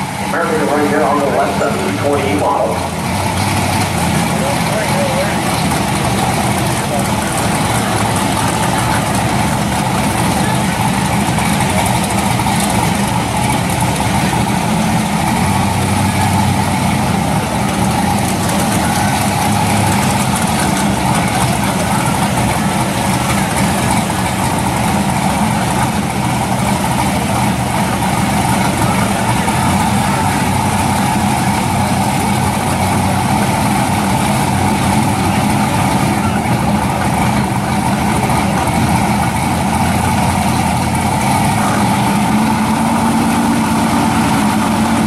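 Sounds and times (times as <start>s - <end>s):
drag car engines idling: 0.0s - 45.0s.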